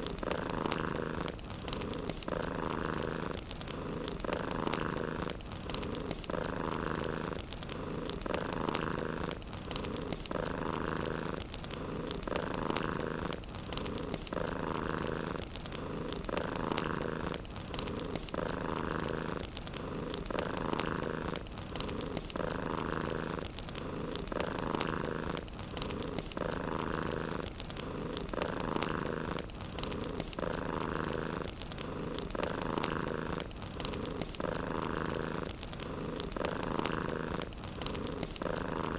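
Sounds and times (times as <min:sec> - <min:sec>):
cat purring: 0:00.0 - 0:38.9
wood fire crackling: 0:00.0 - 0:38.9.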